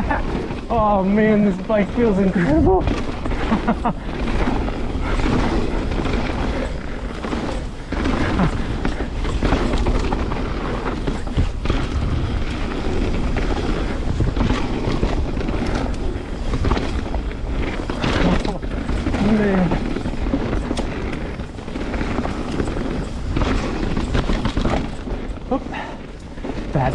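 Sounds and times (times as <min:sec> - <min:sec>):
bike knocks and rattles: 0:00.0 - 0:26.9
wind rushing over microphone: 0:00.0 - 0:26.9.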